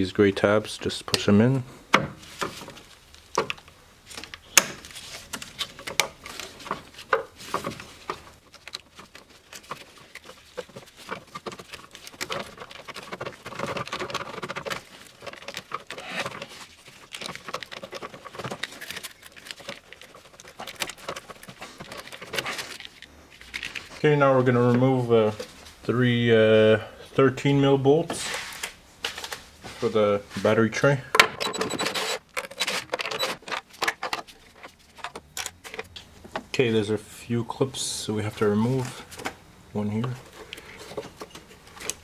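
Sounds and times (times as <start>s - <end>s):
wires rustling: 0.0s - 42.0s.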